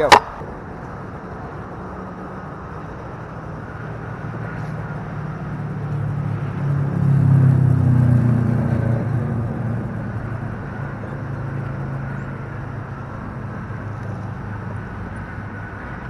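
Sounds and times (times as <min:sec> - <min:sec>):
freeway traffic rumble: 0:00.0 - 0:16.0
heavy vehicle engine: 0:00.0 - 0:16.0.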